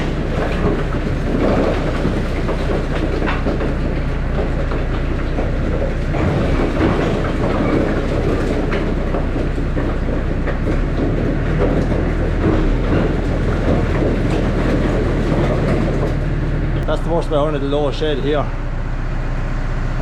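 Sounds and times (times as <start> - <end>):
rattling and clattering: 0.0 - 18.6
tractor engine running: 0.0 - 20.0.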